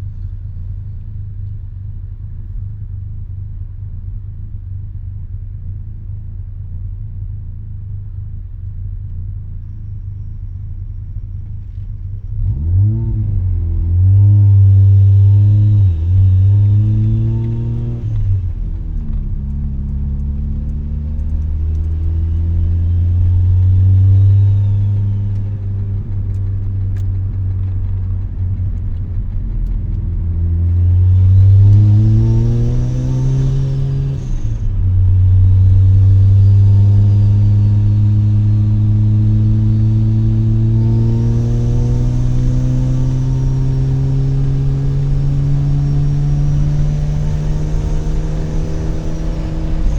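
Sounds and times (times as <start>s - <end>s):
rotary engine pulling through gears: 9.8s - 49.9s.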